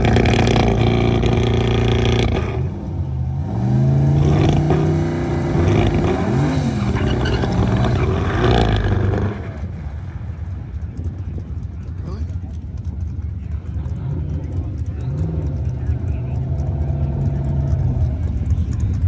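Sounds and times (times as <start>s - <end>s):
drag car engine revving: 0.0s - 19.0s.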